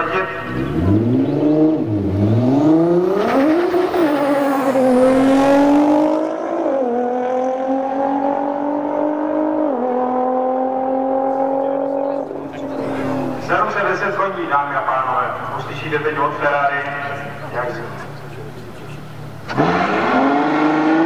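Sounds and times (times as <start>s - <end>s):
car engine revving and accelerating: 0.0s - 13.7s, 17.3s - 21.0s.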